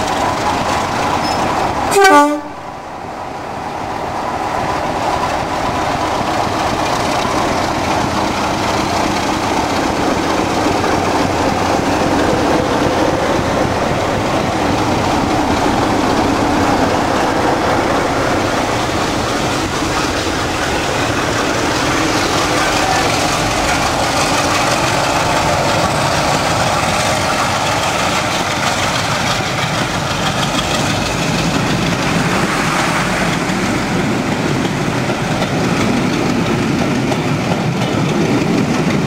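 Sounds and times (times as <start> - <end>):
diesel locomotive engines under power: 0.0 - 39.0
train coaches rolling by: 0.0 - 39.0.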